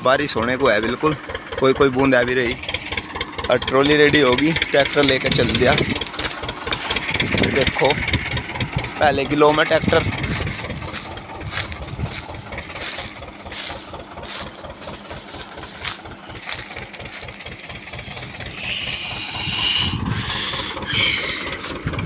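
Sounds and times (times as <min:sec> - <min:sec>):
tractor diesel engine chugging: 0:00.0 - 0:22.0.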